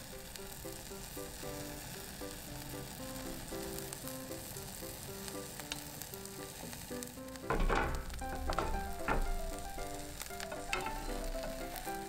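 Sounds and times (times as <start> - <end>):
egg sizzling in a pan: 0.0 - 12.0
light background melody: 0.0 - 12.0.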